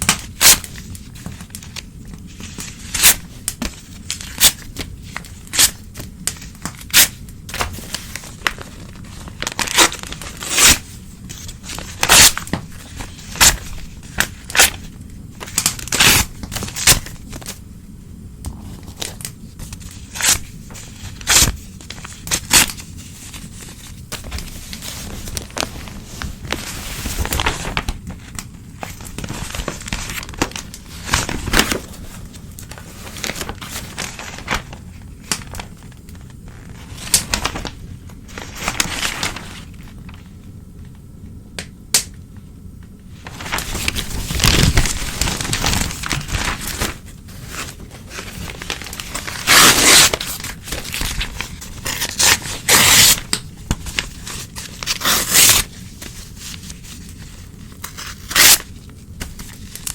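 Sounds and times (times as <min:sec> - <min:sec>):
newspaper tearing and crumpling: 0:00.0 - 0:17.6, 0:18.6 - 0:40.2, 0:43.2 - 0:59.9.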